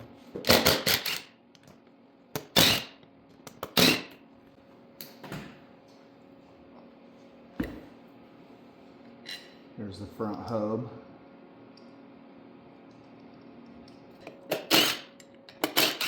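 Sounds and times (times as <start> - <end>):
faint steady hum: 0.0 - 15.8.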